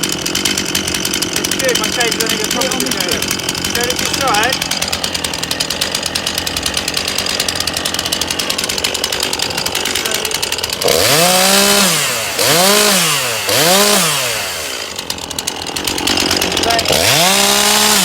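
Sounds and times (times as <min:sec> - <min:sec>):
chainsaw idling and revving: 0:00.0 - 0:18.0.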